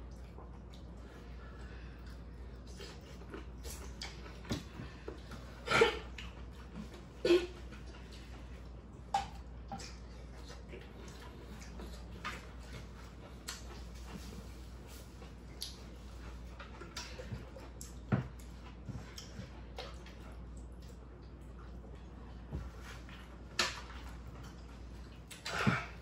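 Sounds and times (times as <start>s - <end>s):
chewing and mouth noises: 0.0s - 26.0s.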